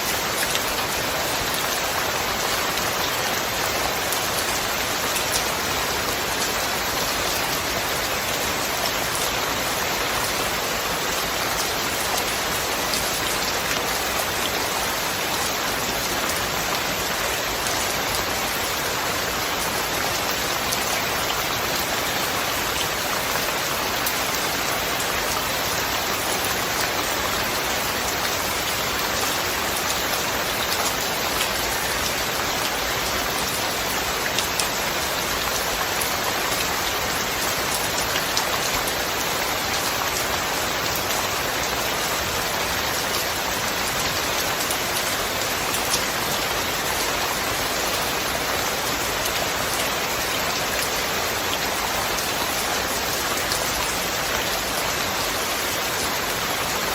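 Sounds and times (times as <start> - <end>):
heavy rain on surfaces: 0.0 - 56.9.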